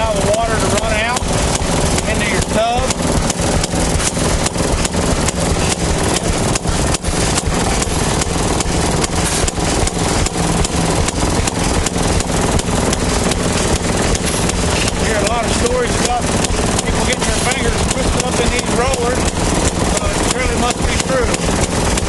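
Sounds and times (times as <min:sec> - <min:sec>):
exhaust popping: 0:00.0 - 0:22.0
small gasoline engine running: 0:00.0 - 0:22.0.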